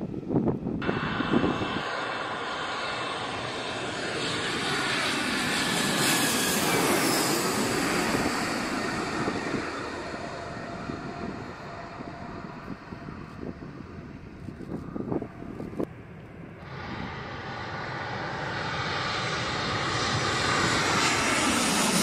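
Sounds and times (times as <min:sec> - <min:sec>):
jet airliner passing overhead: 0:00.0 - 0:22.0
jet engine whine: 0:00.0 - 0:22.0.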